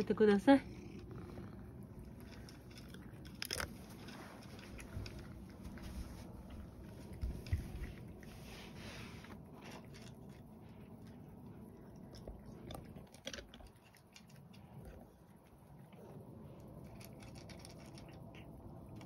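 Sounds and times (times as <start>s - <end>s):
cat crunching dry food: 0.6s - 19.0s.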